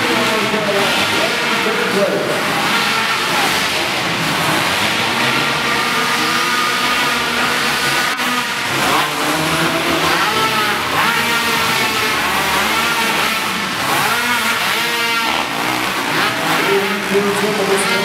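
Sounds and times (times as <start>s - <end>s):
quad engines revving: 0.0s - 18.0s.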